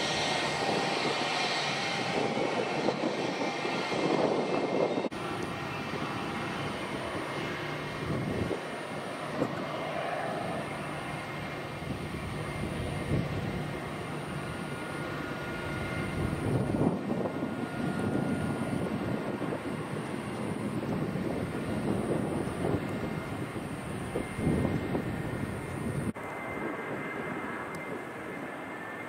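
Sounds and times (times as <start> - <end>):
jet engine rumble with whine: 0.0 - 29.0.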